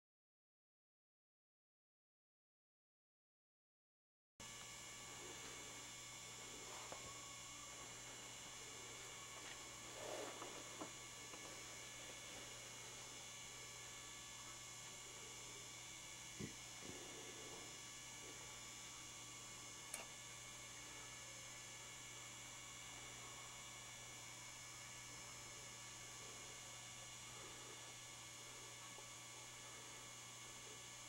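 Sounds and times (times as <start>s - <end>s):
faint electrical mains hum: 4.4s - 31.0s.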